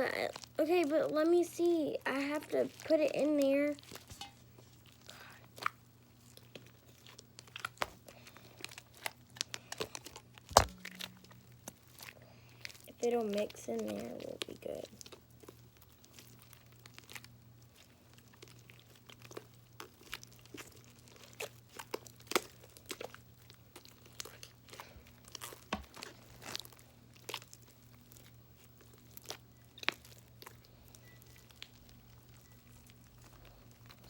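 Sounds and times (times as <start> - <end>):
faint low hum: 0.0 - 34.0
slime squished by hand: 0.0 - 34.0.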